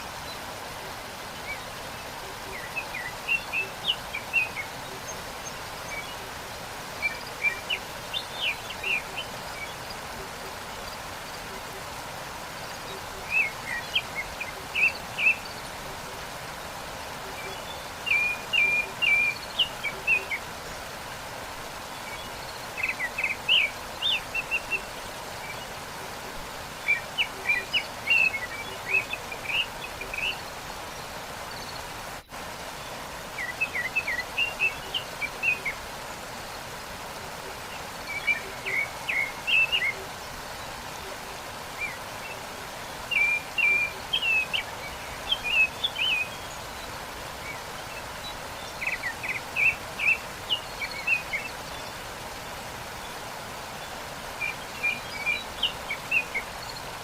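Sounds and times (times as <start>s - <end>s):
songbird chirping: 0.0s - 57.0s
waterfall rushing: 0.0s - 57.0s.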